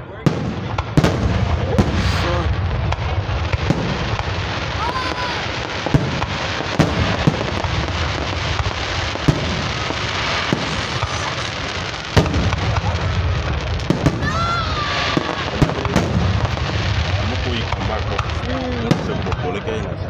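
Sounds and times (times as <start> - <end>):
firework shells bursting: 0.5 - 19.4.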